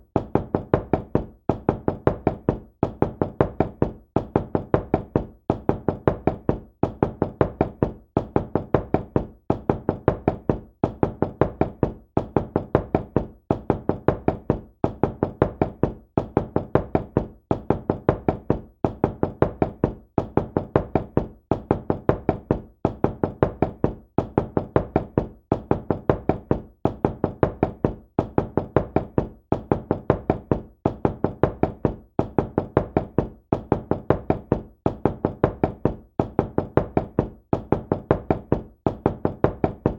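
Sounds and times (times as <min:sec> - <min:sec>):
knocking on a door: 0:00.0 - 0:39.9.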